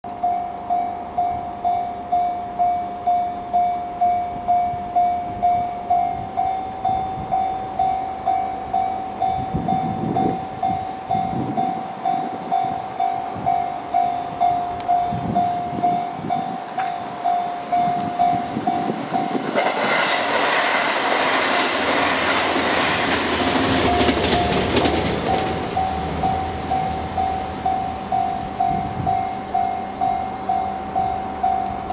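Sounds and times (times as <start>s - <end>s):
level-crossing warning bell ringing: 0.0s - 19.8s, 21.5s - 31.9s
railcar passing with wheel noise: 0.0s - 31.9s.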